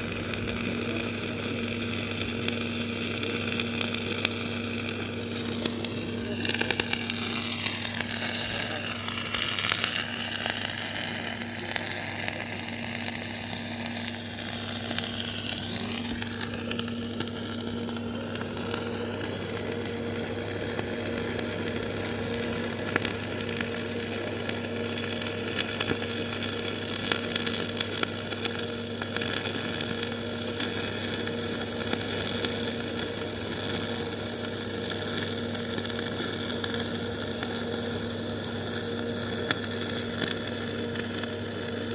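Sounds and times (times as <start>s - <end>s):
welding arc crackling: 0.0s - 41.9s.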